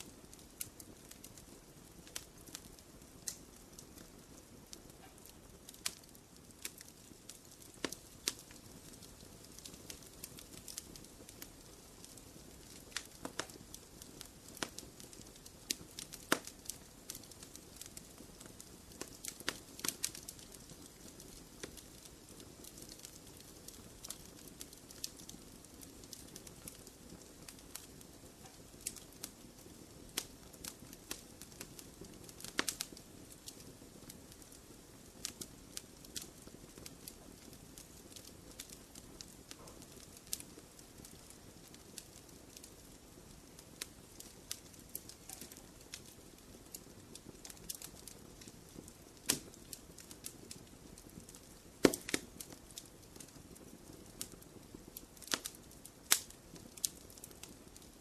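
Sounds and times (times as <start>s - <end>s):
fire hissing: 0.0s - 57.6s
wood fire crackling and popping: 0.0s - 58.0s.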